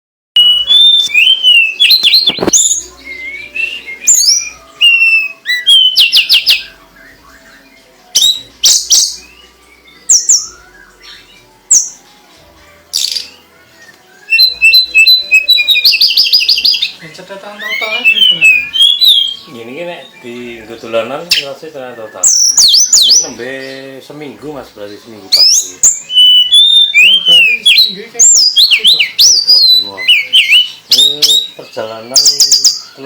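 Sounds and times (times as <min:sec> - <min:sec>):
songbird singing: 0:00.4 - 0:33.0.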